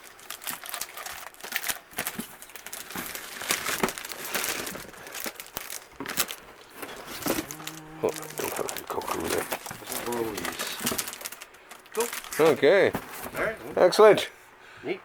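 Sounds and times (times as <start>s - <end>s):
packaging crinkling and rustling: 0.0s - 13.8s.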